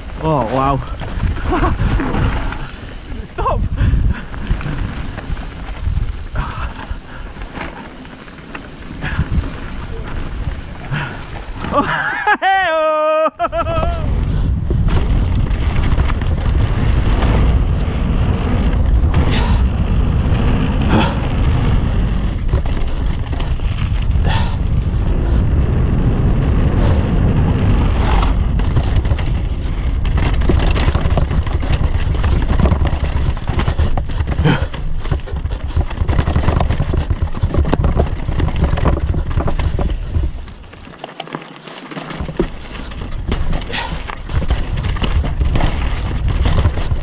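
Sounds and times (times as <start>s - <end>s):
wind buffeting on microphone: 0.0s - 12.3s, 13.4s - 40.8s, 42.2s - 47.0s
bike knocking and rattling on rocks: 0.0s - 12.6s, 13.4s - 47.0s
tyres rumbling on stones: 0.0s - 47.0s.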